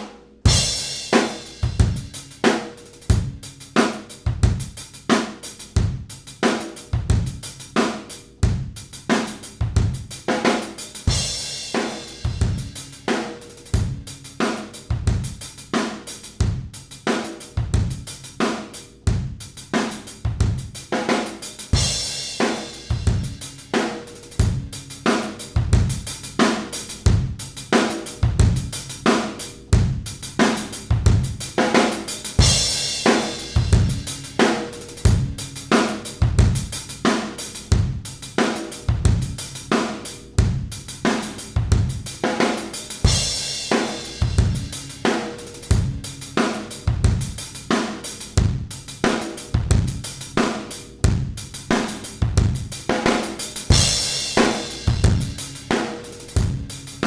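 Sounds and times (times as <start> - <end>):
compressed drum-kit beat: 0.0 - 57.0.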